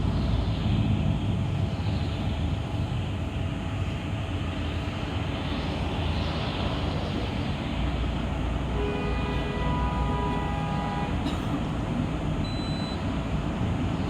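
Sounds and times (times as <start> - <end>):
bus interior road rumble: 0.0 - 14.0.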